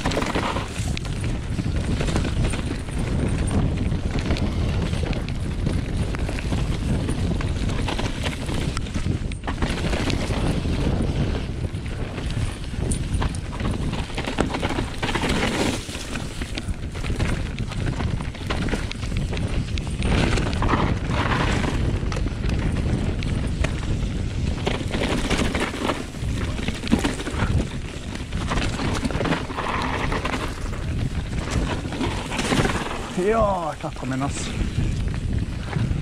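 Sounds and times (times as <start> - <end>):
tyres rolling over dirt and leaves: 0.0 - 3.5, 4.2 - 35.9
bike knocks and rattles: 0.0 - 36.0
wind rumble on microphone: 0.0 - 36.0.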